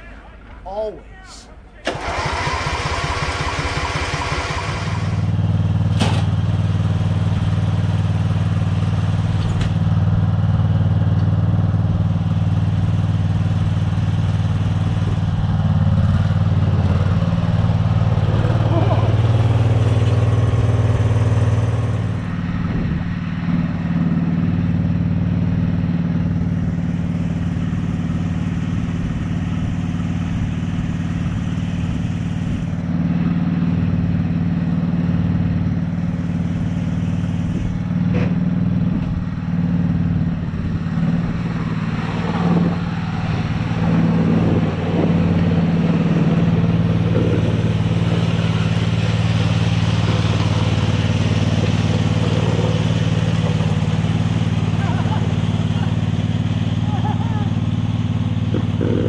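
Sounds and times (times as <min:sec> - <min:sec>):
garden tractor engine running: 0:01.8 - 0:24.0, 0:24.7 - 0:59.0
plow blade pushing snow: 0:01.9 - 0:59.0.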